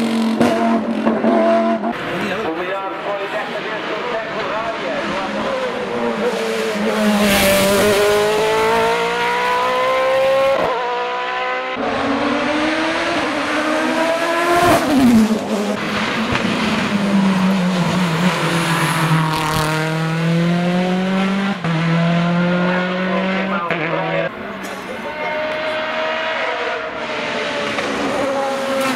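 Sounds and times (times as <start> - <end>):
race car engine at full throttle: 0.0 - 28.9.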